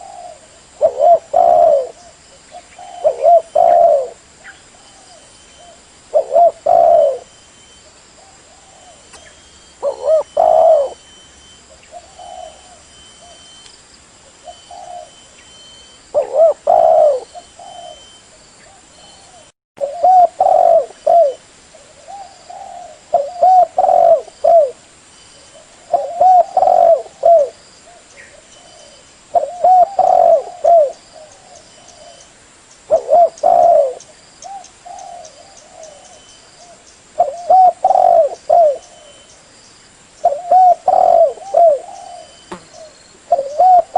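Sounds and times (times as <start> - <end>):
dove cooing: 0.0 - 7.4, 8.2 - 13.5, 14.3 - 24.8, 25.4 - 32.3, 32.9 - 39.3, 40.2 - 43.9.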